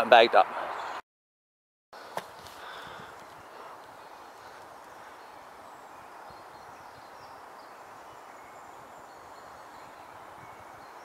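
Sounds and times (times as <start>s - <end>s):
outdoor background hiss: 2.0s - 11.0s.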